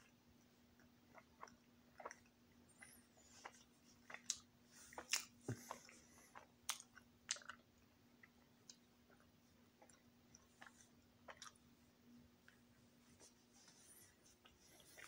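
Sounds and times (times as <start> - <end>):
faint steady hum: 0.0 - 15.0
person chewing: 0.8 - 11.6, 13.7 - 15.0.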